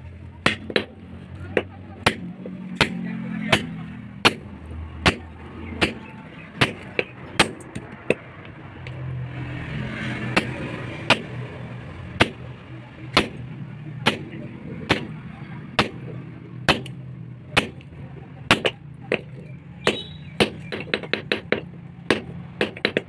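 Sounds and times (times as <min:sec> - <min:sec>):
low engine-like drone: 0:00.0 - 0:22.7
hammer blows on metal: 0:00.4 - 0:08.6, 0:10.3 - 0:15.2, 0:15.8 - 0:23.0.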